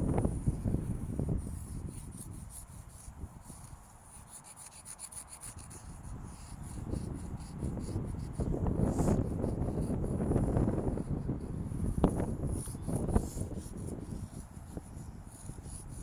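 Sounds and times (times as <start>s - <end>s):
wind buffeting microphone: 0.0s - 16.0s
chalk scraping: 0.1s - 16.0s.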